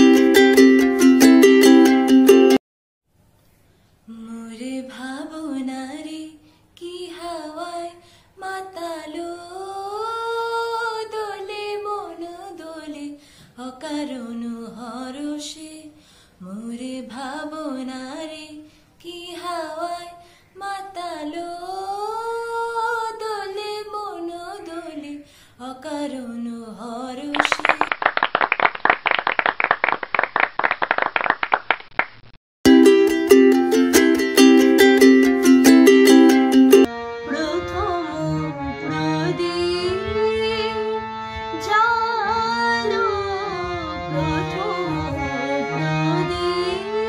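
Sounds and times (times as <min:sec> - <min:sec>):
girl singing unaccompanied: 0:04.1 - 0:27.7, 0:32.9 - 0:47.0.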